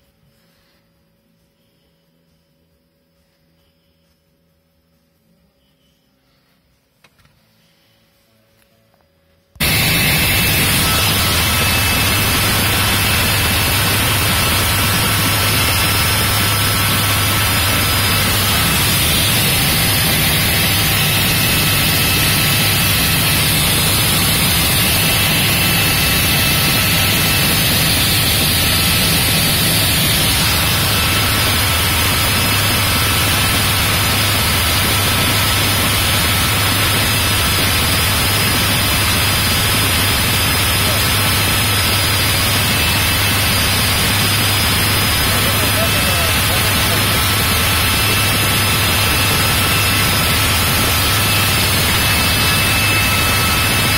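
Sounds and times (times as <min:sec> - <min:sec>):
helicopter drone from inside cabin: 0:09.6 - 0:53.9.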